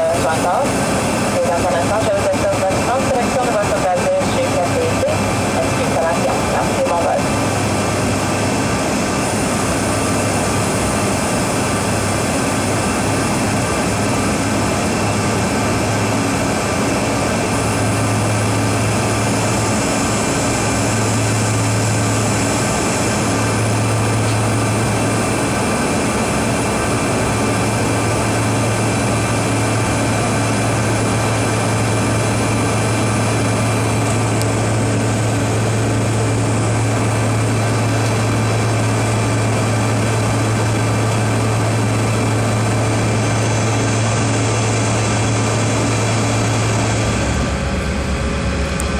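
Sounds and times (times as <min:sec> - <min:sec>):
jet engine drone: 0:00.0 - 0:48.9
low hum: 0:00.0 - 0:48.9
rushing airflow: 0:04.1 - 0:48.9.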